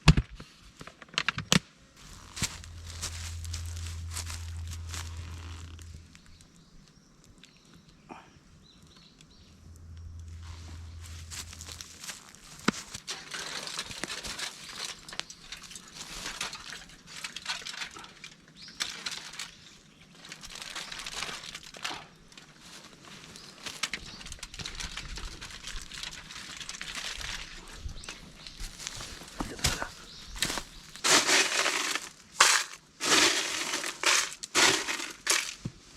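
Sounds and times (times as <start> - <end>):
rustling and crinkling: 2.0 - 6.7, 9.4 - 35.9.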